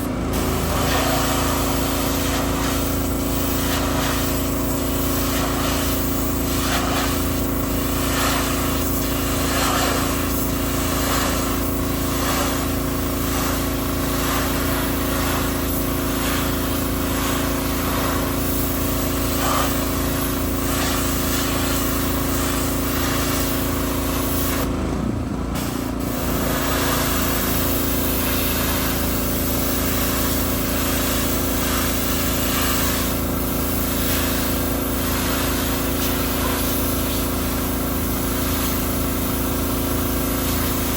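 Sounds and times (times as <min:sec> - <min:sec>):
water jet spraying: 0:00.0 - 0:24.7, 0:25.6 - 0:40.9
small engine running: 0:00.0 - 0:40.9.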